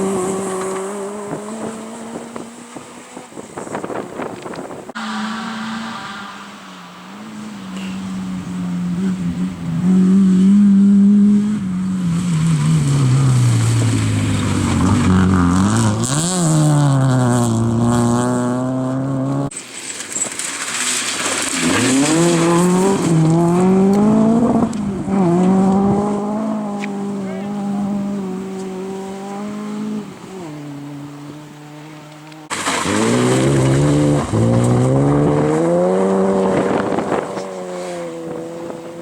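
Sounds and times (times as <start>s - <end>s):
rally car engine passing: 0.0s - 4.0s, 4.8s - 39.0s
engine accelerating: 4.9s - 19.5s, 21.7s - 39.0s.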